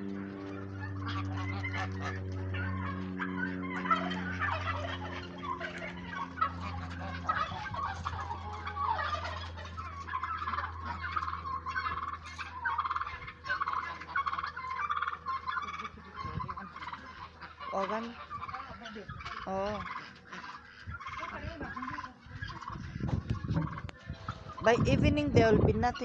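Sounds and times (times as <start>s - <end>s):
poultry chattering: 0.0s - 26.0s
steady low hum: 0.0s - 26.0s
turkeys gobbling: 0.0s - 26.0s.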